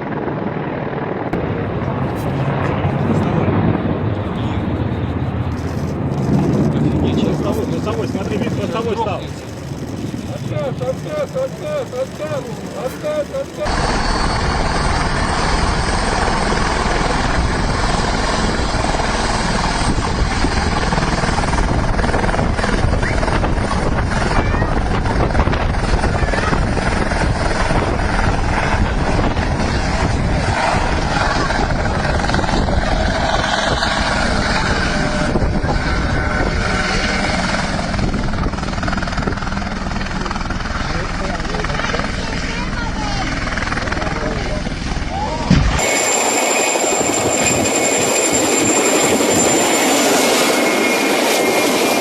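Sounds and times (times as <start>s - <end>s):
helicopter rotor and engine: 0.0s - 52.0s.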